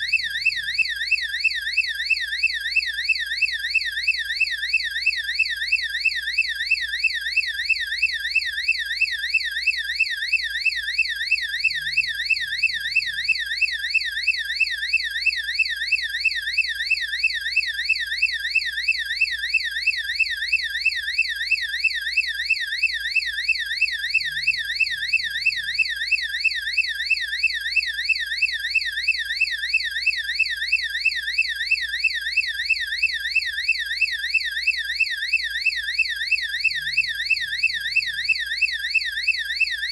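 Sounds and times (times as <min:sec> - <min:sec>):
electronic yelp siren: 0:00.0 - 0:39.9.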